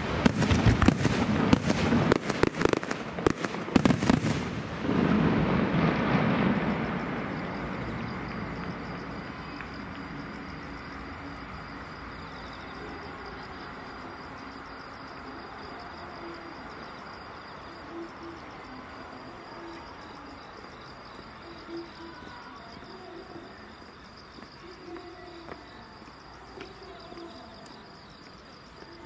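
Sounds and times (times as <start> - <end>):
insects trilling: 4.8 - 29.0.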